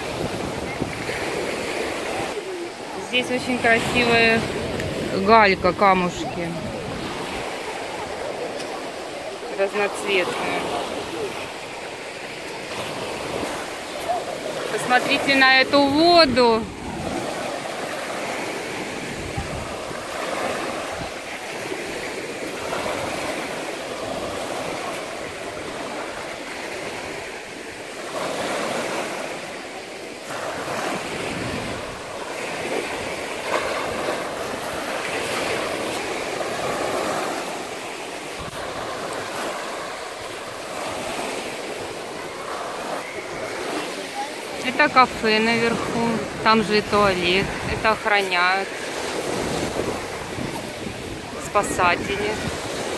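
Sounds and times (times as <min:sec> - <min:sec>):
waves washing up a pebble beach: 0:00.0 - 0:52.9.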